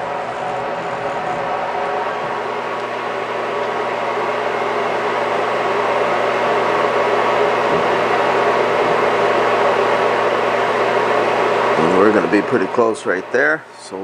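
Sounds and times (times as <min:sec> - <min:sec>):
lathe machine hum and whir: 0:00.0 - 0:14.0.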